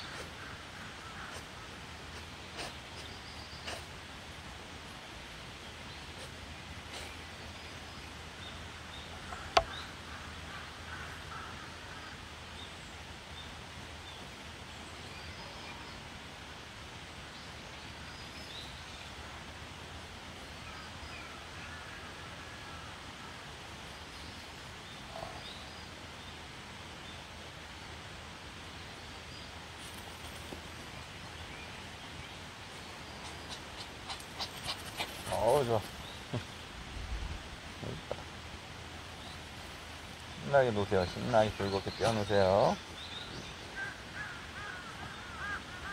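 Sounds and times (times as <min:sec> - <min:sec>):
rustling hiss: 0:00.0 - 0:45.9.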